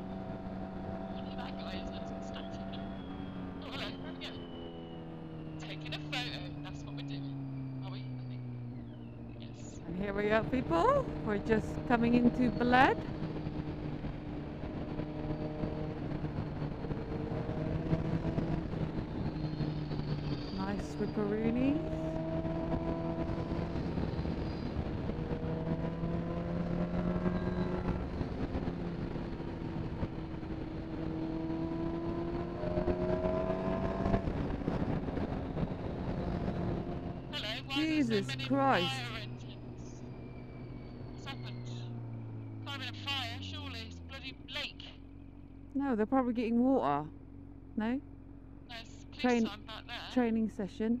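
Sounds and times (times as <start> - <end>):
motorcycle engine cruising: 0.0 - 51.0
wind and road noise: 0.0 - 51.0.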